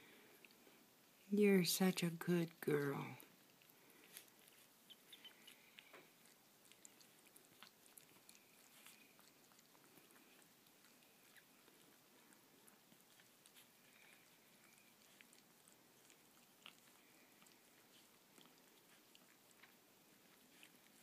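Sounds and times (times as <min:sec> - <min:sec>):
dog licking with wet clicks: 0:03.2 - 0:21.0.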